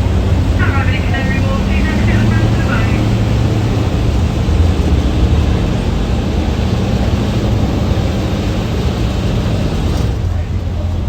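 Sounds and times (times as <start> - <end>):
rushing water and air: 0.0 - 10.3
boat engine rumble: 0.0 - 11.0.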